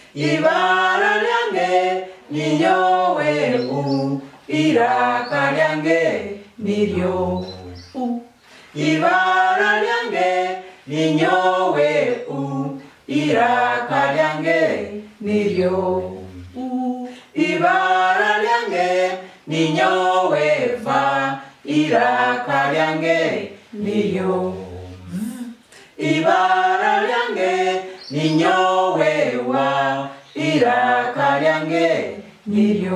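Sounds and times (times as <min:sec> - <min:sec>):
group singing unaccompanied: 0:00.0 - 0:32.9.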